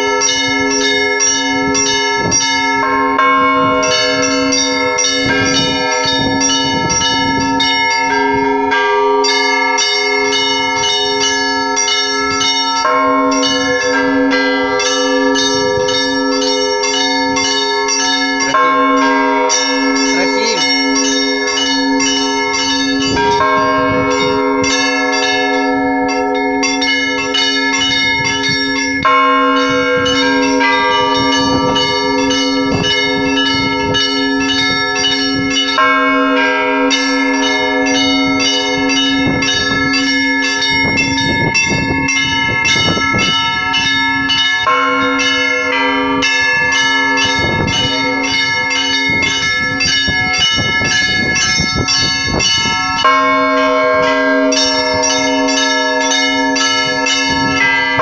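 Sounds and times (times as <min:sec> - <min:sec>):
deep bell tone: 0:00.0 - 0:58.0
small church bells struck quickly: 0:00.0 - 0:58.0.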